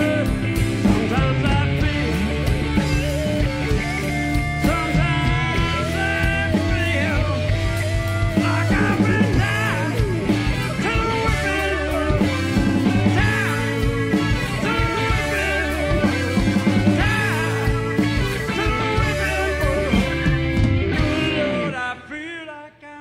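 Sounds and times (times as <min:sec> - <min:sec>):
live rock band playing: 0:00.0 - 0:22.3
man singing: 0:00.0 - 0:23.0.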